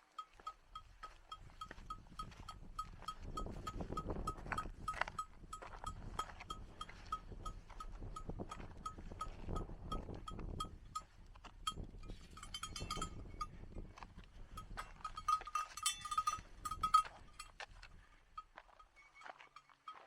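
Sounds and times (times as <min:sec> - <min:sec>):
livestock bell clinking: 0:00.0 - 0:13.8, 0:14.4 - 0:20.0.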